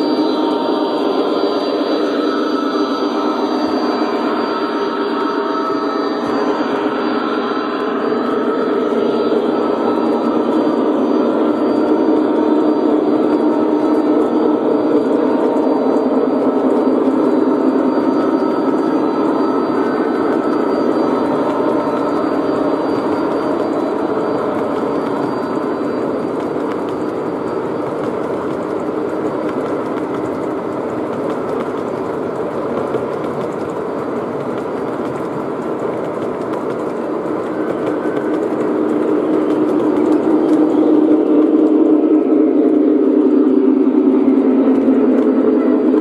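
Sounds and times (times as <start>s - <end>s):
model train wheels rolling on rail: 0.0s - 46.0s.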